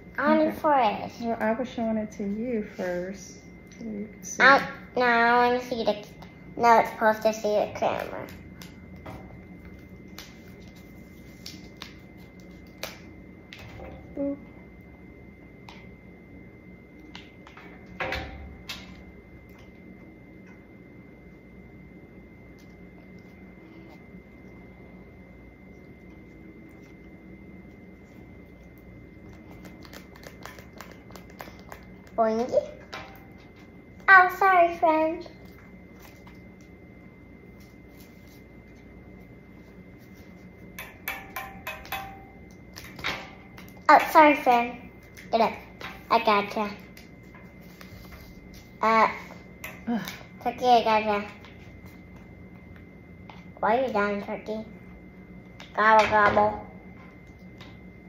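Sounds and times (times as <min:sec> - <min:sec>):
faint steady hum: 0:00.0 - 0:58.0
thin high whine: 0:00.0 - 0:58.0.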